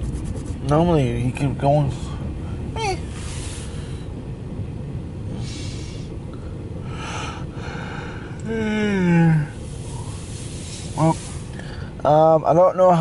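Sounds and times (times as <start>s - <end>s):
train wheels rumbling on rail: 0.0s - 12.6s.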